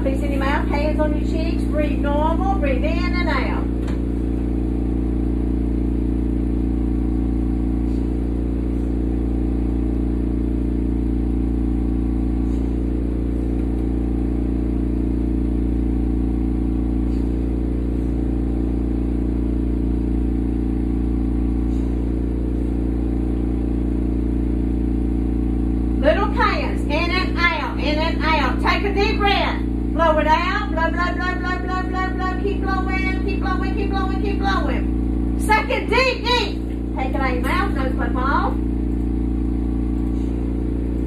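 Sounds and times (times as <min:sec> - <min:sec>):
low machine hum: 0:00.0 - 0:41.0.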